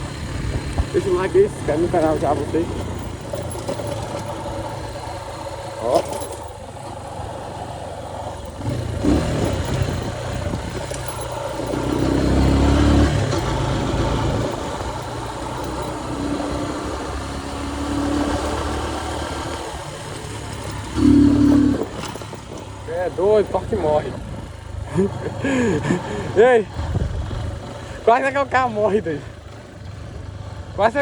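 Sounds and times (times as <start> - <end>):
motorcycle engine hum: 0.0 - 31.0.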